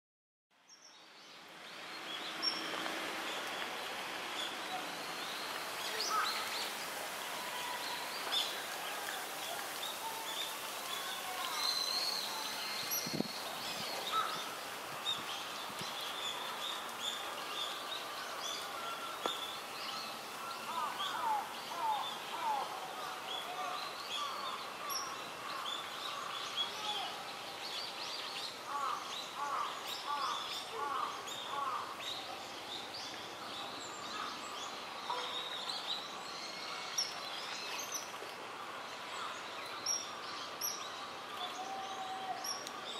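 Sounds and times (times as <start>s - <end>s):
steady outdoor hiss: 0.6s - 42.9s.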